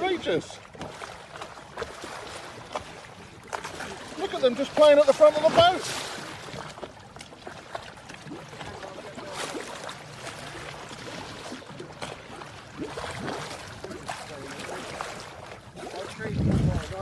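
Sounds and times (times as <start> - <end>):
water rushing along boat bow: 0.0 - 17.0.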